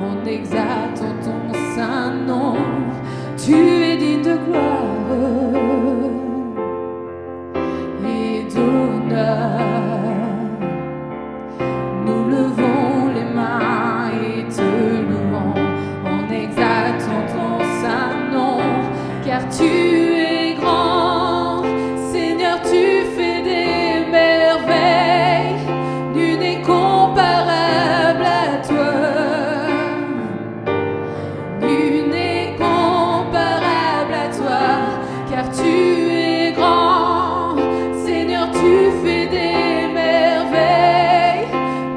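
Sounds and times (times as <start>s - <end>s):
women singing gospel song: 0.0s - 6.6s, 7.9s - 10.6s, 11.9s - 30.4s, 31.4s - 41.9s
keyboard chords: 0.0s - 41.9s.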